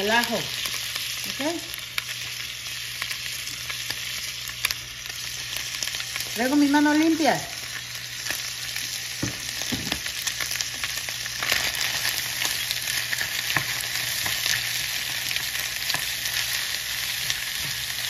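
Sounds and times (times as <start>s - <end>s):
liver and onion sizzling in oil: 0.0s - 18.0s.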